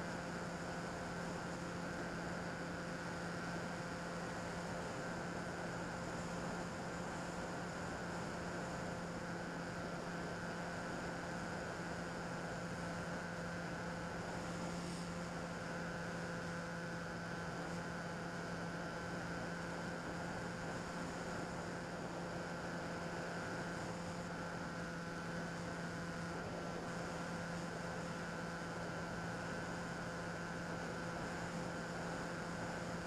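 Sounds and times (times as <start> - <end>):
electric motor and propeller humming: 0.0 - 33.0.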